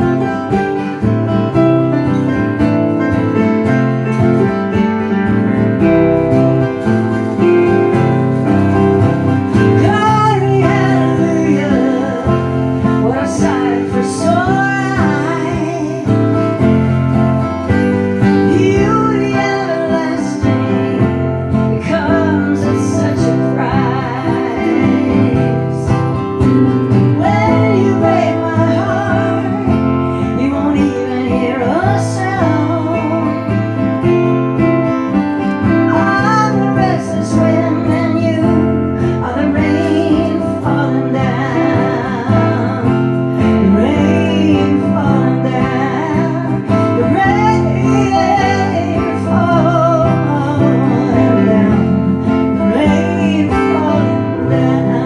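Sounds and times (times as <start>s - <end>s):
woman singing: 0.0s - 2.4s, 4.0s - 55.0s
acoustic guitar: 0.0s - 55.0s.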